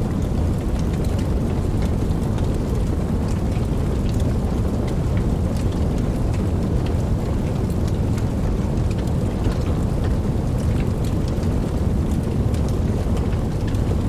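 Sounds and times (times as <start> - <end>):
sharp ticks of raindrops: 0.0 - 14.0
steady rain: 0.0 - 14.0.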